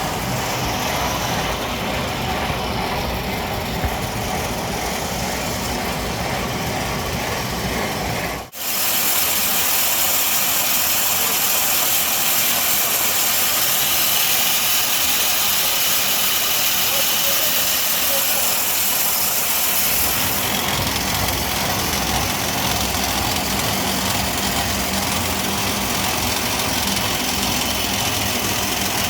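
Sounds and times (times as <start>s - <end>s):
machinery running: 0.0s - 29.0s.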